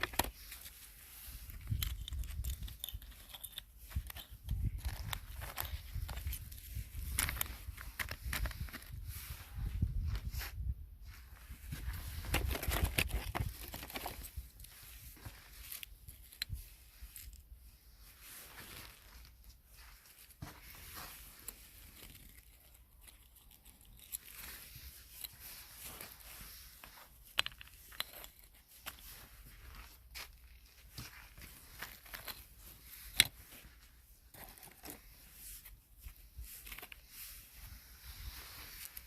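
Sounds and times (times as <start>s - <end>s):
crackling and rustling: 0.0s - 10.5s, 11.2s - 39.0s.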